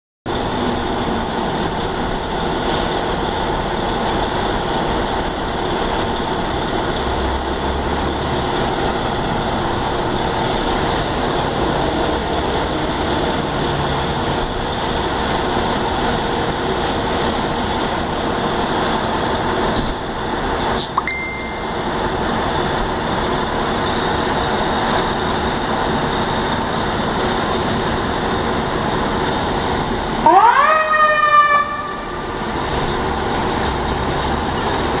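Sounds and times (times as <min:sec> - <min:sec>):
diesel engines running: 0:00.3 - 0:35.0
street traffic: 0:00.3 - 0:35.0.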